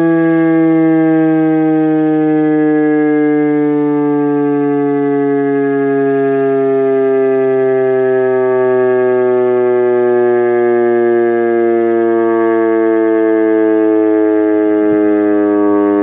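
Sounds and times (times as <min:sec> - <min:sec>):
warning siren howling: 0:00.0 - 0:16.0.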